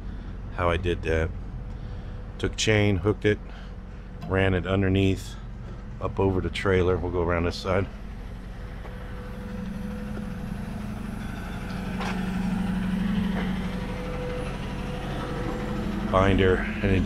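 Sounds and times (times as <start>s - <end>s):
diesel truck engine humming: 0.0s - 17.0s.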